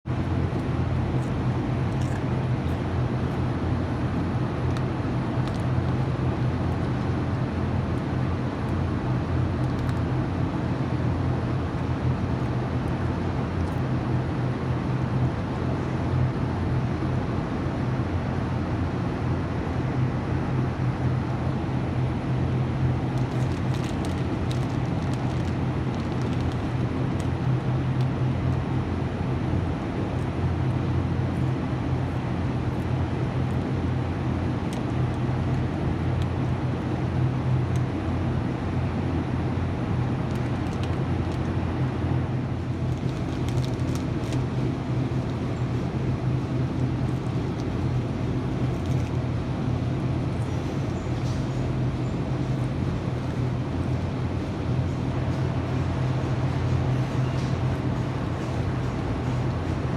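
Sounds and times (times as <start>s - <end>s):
low rumble and hum: 0.0s - 59.9s.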